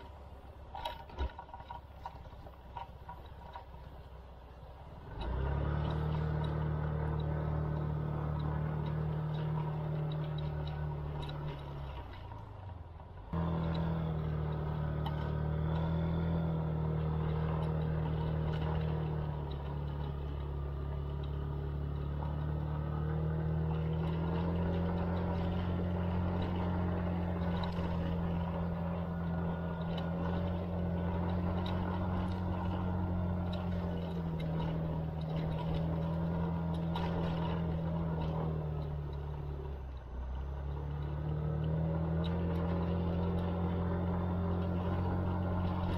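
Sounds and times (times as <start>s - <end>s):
scooter engine running: 0.0s - 39.8s, 40.4s - 45.9s.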